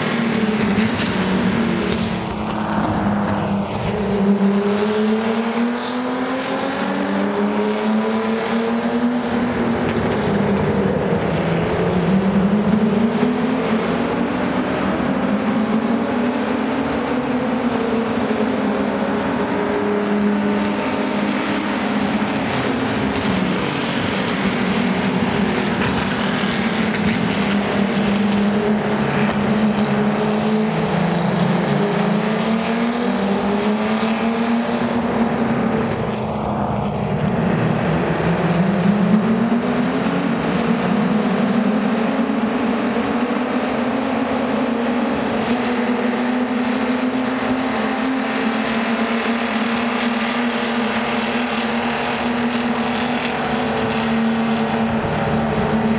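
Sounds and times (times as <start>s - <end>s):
race car engines at high revs: 0.0s - 55.9s.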